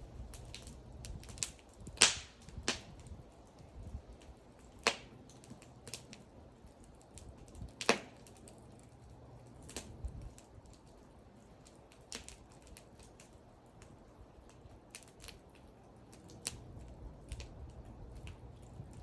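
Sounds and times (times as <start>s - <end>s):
faint low rumble: 0.0s - 19.0s
wood fire crackling: 0.0s - 19.0s.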